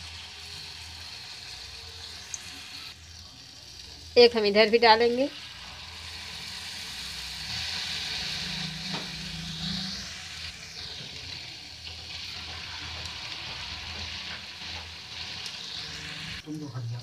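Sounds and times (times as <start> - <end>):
batter sizzling in hot fat: 0.0 - 17.0.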